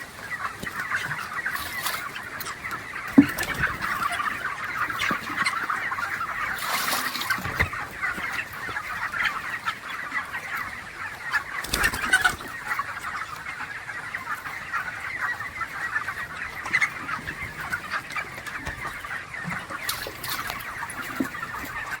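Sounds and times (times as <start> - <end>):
chickens clucking and cheeping: 0.0 - 22.0.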